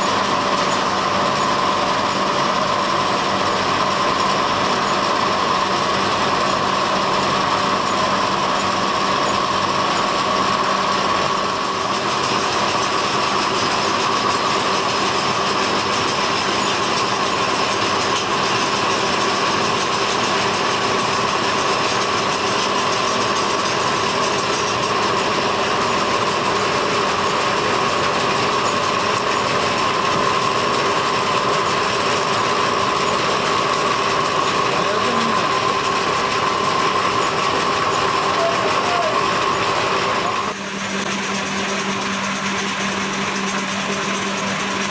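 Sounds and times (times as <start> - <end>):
rope-making machinery din: 0.0 - 44.9.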